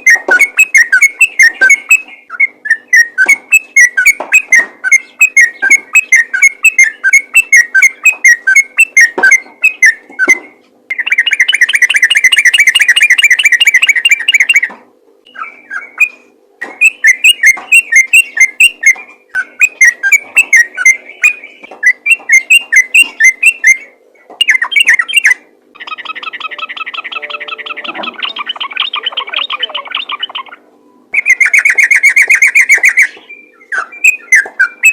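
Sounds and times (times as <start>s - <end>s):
bulbul singing whistled notes: 0.0s - 14.7s, 15.3s - 34.9s.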